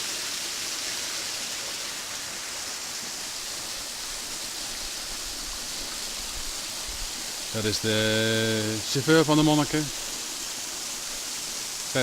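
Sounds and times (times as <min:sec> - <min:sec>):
waterfall rushing onto rock: 0:00.0 - 0:12.0.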